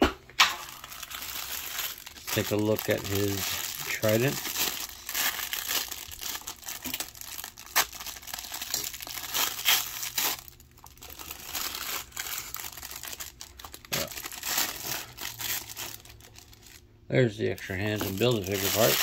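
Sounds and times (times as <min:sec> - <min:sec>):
plastic wrapper crinkling: 0:00.5 - 0:16.9, 0:17.5 - 0:19.0.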